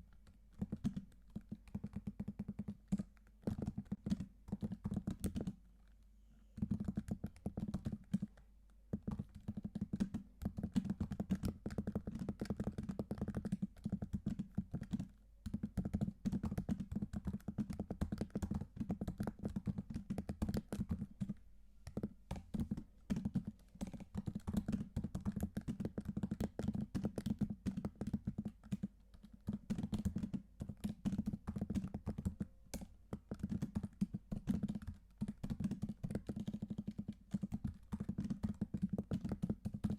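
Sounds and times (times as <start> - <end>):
typing on computer keyboard: 0.1 - 5.6, 6.6 - 39.9.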